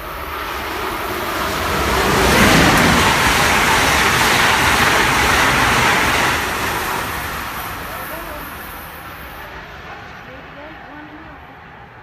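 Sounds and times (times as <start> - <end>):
passenger train passing at speed: 0.0 - 12.0.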